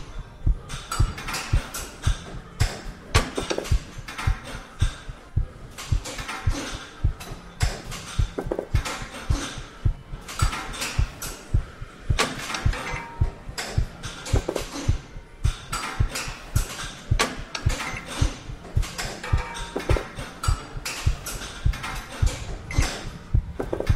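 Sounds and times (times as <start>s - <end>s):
rhythmic low thumps: 0.0s - 23.9s.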